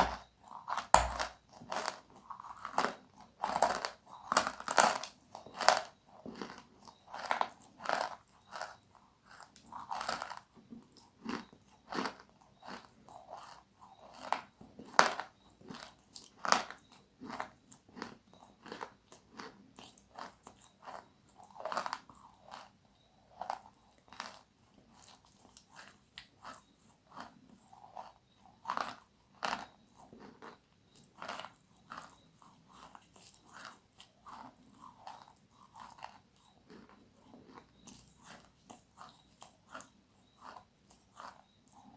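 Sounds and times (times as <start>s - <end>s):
crispy food crunching: 0.0s - 41.9s.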